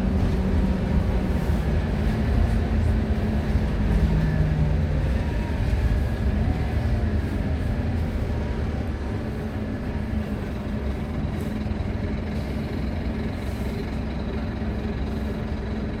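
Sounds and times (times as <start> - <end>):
bus engine drone: 0.0 - 16.0
road rumble: 0.0 - 16.0.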